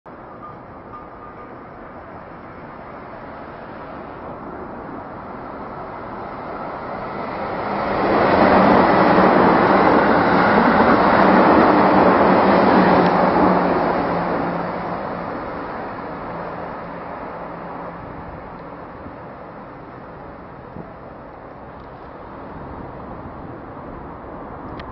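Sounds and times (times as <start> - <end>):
train wheels rumbling on rails: 0.1 - 24.9.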